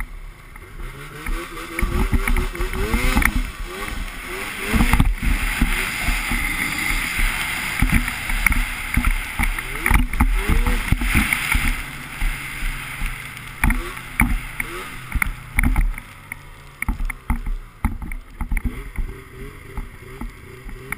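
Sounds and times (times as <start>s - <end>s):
snowmobile engine revving: 0.0s - 20.9s
knocks and thumps of sled bouncing: 1.1s - 20.9s.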